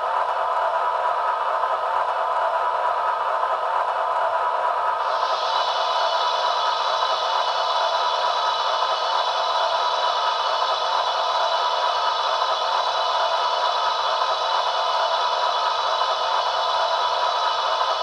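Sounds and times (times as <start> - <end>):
model train sound through tiny speaker: 0.0 - 18.0.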